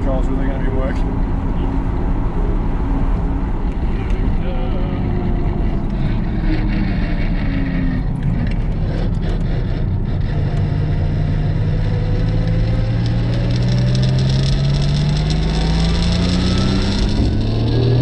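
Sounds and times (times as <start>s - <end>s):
car engine accelerating: 0.0s - 18.0s
engine whine: 0.0s - 18.0s.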